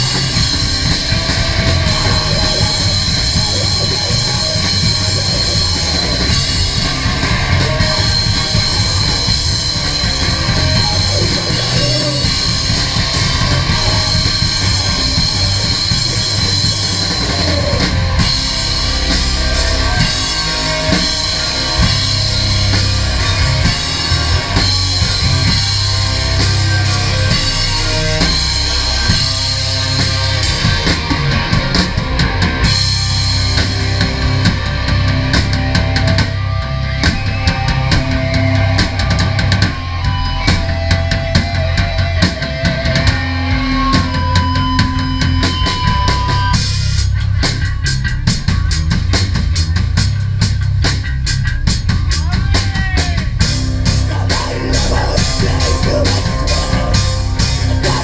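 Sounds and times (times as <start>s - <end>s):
punk band playing live: 0.0s - 58.0s.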